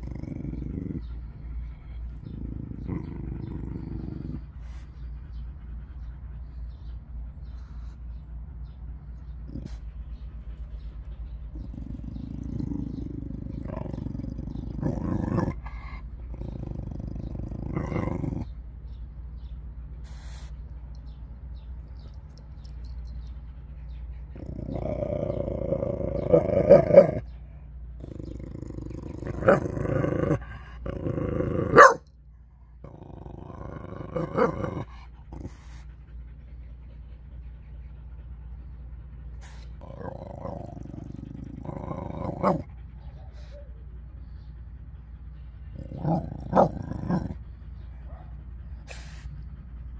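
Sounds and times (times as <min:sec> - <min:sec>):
dog growling low: 0:00.0 - 0:06.4, 0:08.6 - 0:19.5, 0:22.0 - 0:32.1, 0:32.7 - 0:49.9.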